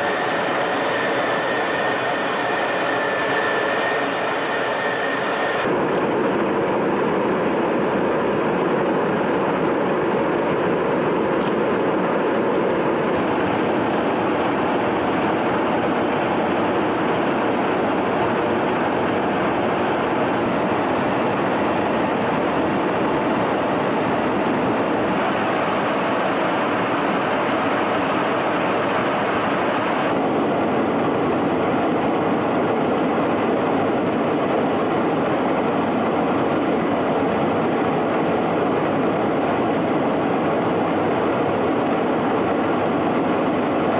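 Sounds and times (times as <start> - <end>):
aircraft engine and air rush: 0.0 - 43.9.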